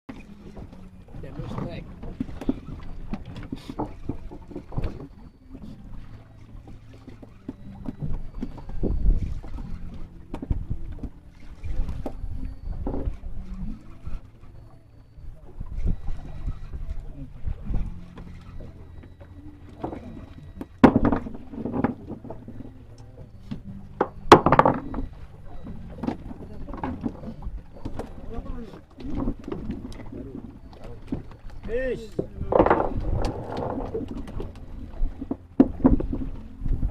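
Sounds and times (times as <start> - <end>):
boat engine hum: 0.1 - 36.9
water splashes: 0.1 - 36.9.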